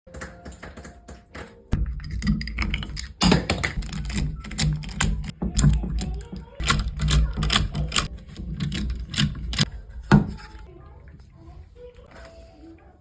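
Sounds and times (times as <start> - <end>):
tools and parts clicking: 0.1 - 10.6.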